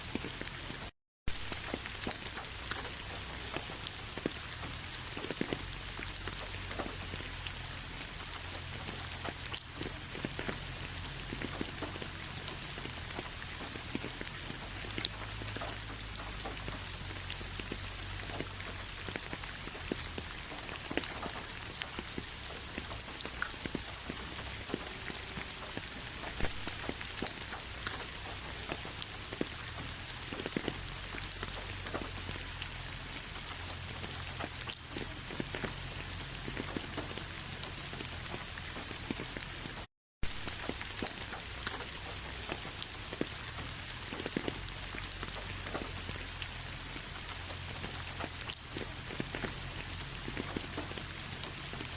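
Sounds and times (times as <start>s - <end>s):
raindrops ticking on surface: 0.0s - 51.9s
steady rain hiss: 0.0s - 51.9s.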